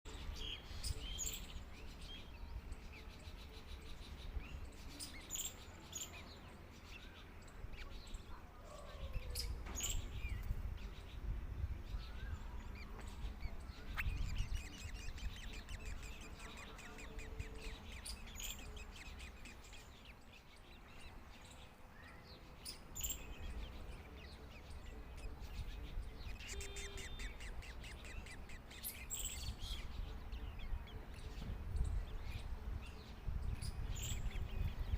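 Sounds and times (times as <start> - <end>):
birds chirping and whistling: 0.1 - 34.9.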